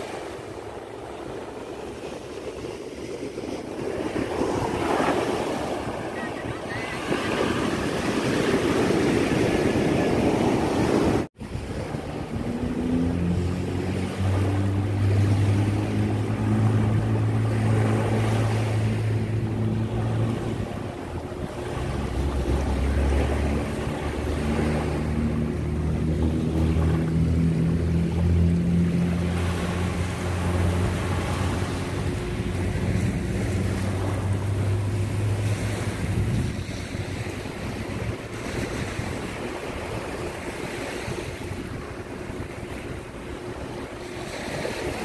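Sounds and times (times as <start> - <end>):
small waves lapping shore: 0.0 - 45.0
surf breaking on beach: 0.0 - 45.0
low motor hum: 3.2 - 45.0.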